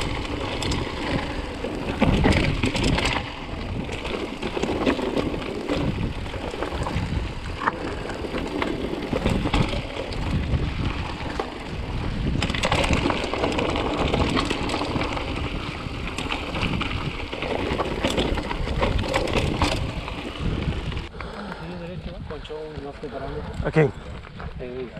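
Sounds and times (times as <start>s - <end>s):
bike rattling over bumps: 0.0s - 21.1s
bike tyres on dry dirt: 0.0s - 24.9s
wind rumble on microphone: 0.0s - 24.9s.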